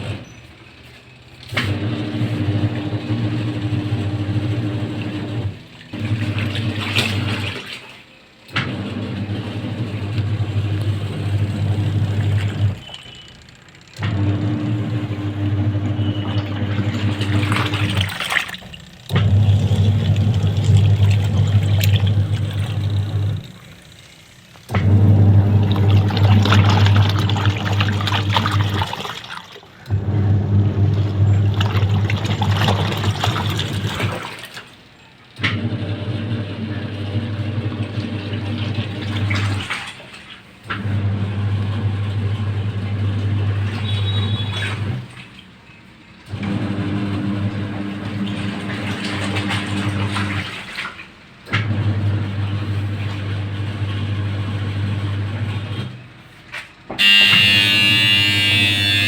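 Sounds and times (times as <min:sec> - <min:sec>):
washing machine motor humming: 0:00.0 - 0:56.3, 0:56.9 - 0:59.0
water churning: 0:01.7 - 0:13.4, 0:14.0 - 0:56.2.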